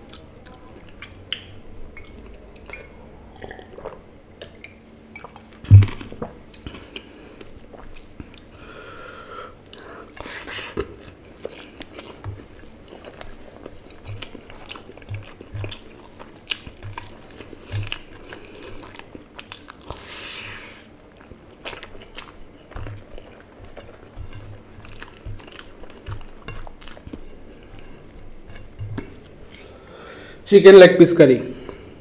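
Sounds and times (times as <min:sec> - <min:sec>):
person chewing: 0:00.0 - 0:30.4.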